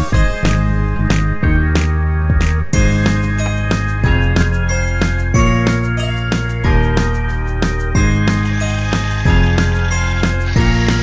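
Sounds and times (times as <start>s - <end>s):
background music melody: 0.0s - 11.0s.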